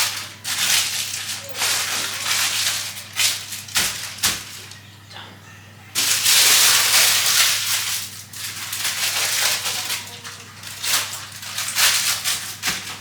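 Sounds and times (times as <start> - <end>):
baking paper crinkling: 0.0 - 4.9, 6.0 - 13.0.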